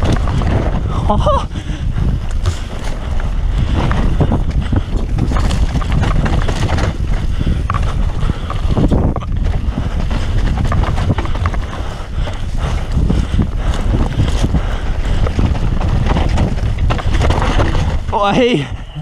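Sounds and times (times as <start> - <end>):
bike knocks and rattles: 0.0 - 18.6
tyres rolling over dirt: 0.0 - 19.0
wind buffeting microphone: 0.0 - 19.0.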